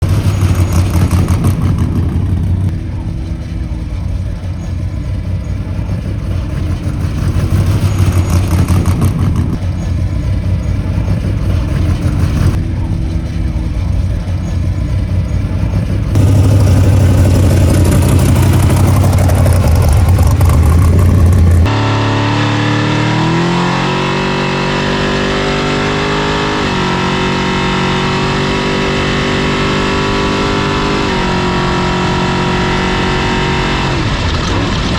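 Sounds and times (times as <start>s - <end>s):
engine running and revving: 0.0s - 34.9s.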